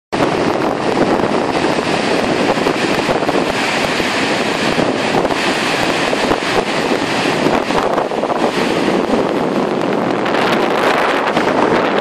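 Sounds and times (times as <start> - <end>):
wind buffeting microphone: 0.1 - 12.0
waterfall rushing: 0.2 - 12.0.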